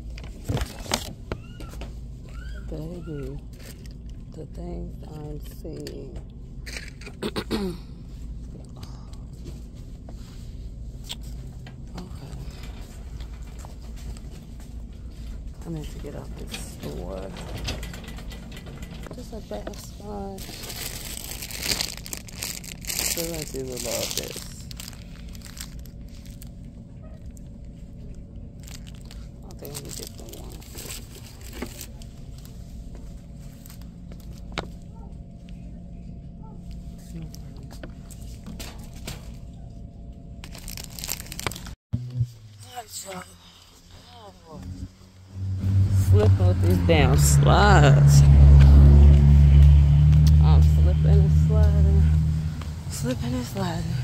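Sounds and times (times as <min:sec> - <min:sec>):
shop interior background noise: 0:00.0 - 0:54.0
steady low hum: 0:00.0 - 0:54.0.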